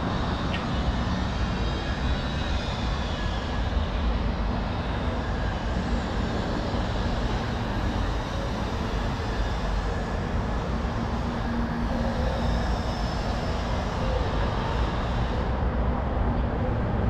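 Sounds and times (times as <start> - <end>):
low rumble of city ambience: 0.0 - 17.0.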